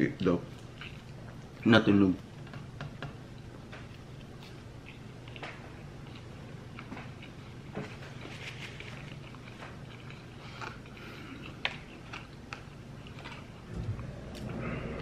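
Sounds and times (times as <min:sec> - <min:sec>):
steady low hum: 0:00.0 - 0:15.0
person chewing food: 0:00.5 - 0:15.0.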